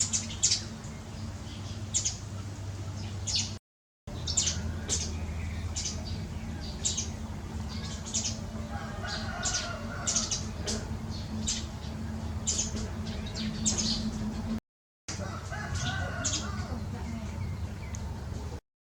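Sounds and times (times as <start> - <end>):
flock of birds chirping: 0.0 - 18.6
steady low hum: 0.0 - 18.6.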